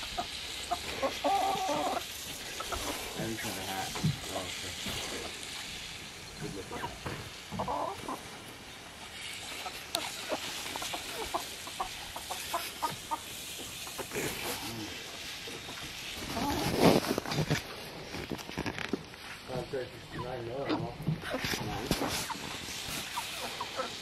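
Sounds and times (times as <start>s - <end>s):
hens clucking: 0.0s - 18.5s, 19.2s - 24.0s.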